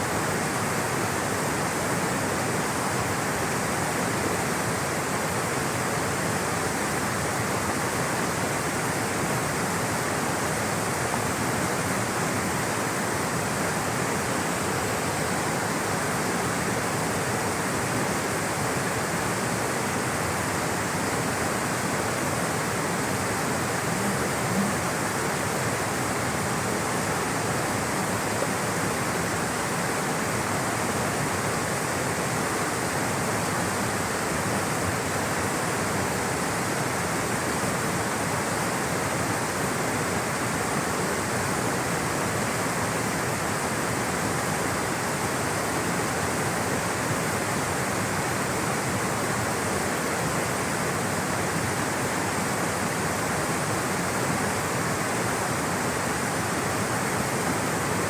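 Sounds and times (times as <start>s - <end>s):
rushing flowing water: 0.0s - 58.0s.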